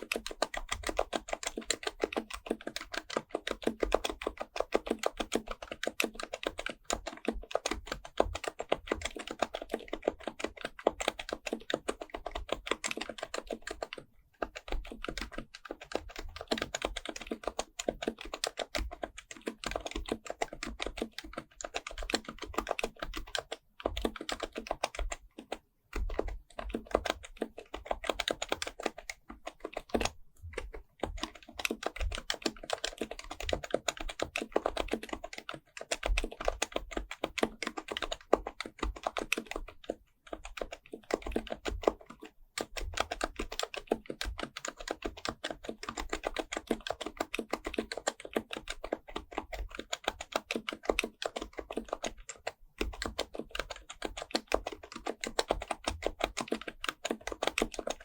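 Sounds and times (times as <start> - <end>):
fast typing on a keyboard: 0.0 - 58.0.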